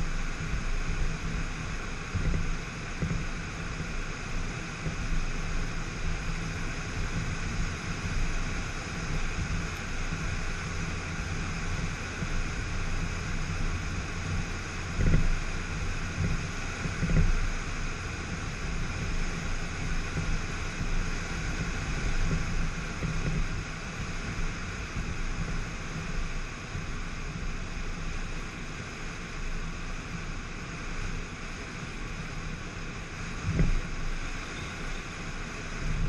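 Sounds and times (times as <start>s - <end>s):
car road and wind noise: 0.0s - 36.0s.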